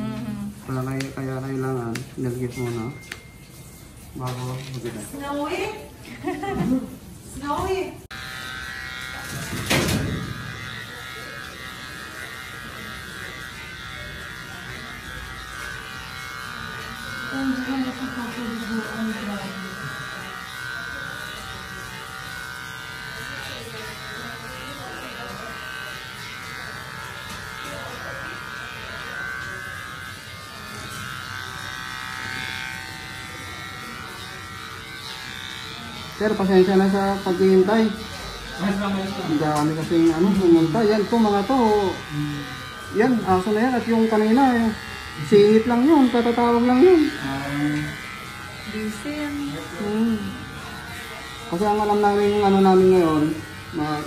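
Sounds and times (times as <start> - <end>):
electric clipper buzzing: 0.0 - 54.0.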